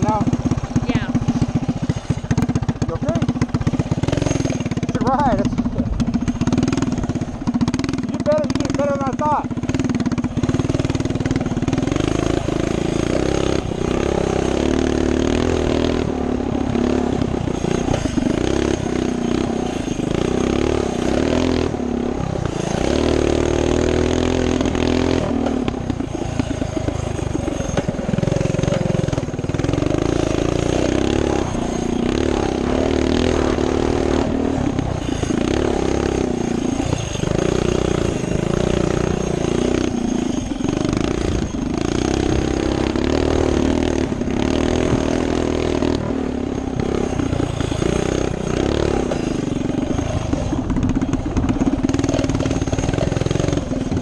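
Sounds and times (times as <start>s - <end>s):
minibike engine running hard: 0.0s - 54.0s.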